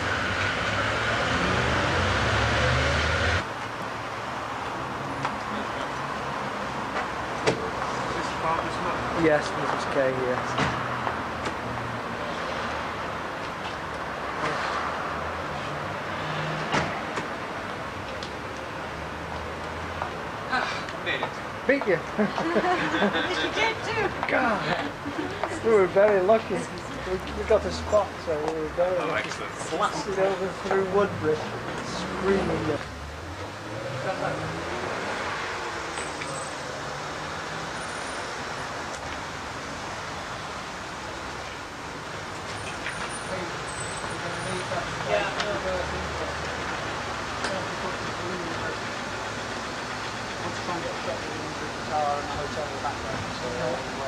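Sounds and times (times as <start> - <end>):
road traffic and engine noise: 0.0 - 54.0.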